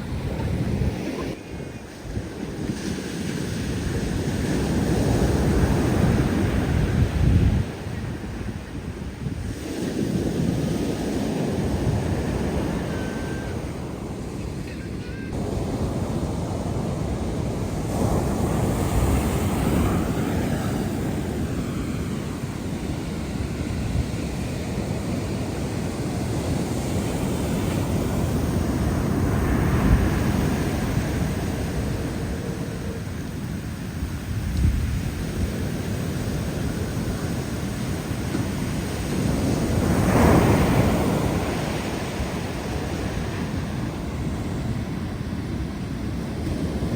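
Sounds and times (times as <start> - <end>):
surf breaking on beach: 0.0 - 46.9
wind buffeting microphone: 0.0 - 46.9.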